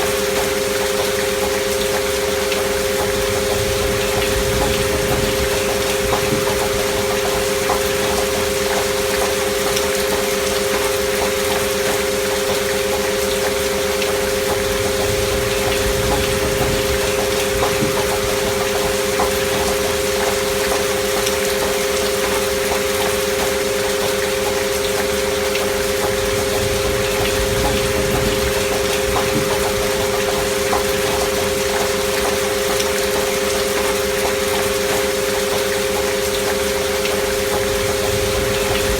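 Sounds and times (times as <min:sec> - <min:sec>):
gentle rain hiss: 0:00.0 - 0:38.9.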